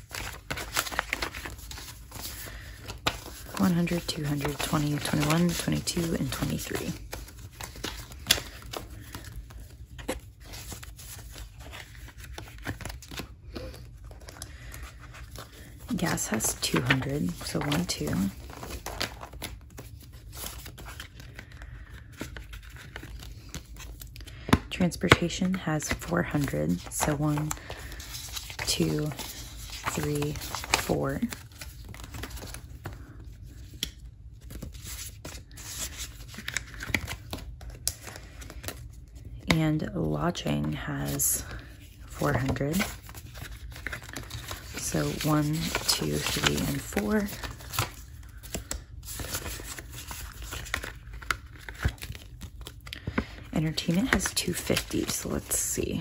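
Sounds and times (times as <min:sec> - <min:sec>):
paper bills rustling: 0:00.0 - 0:40.0, 0:40.7 - 0:56.0.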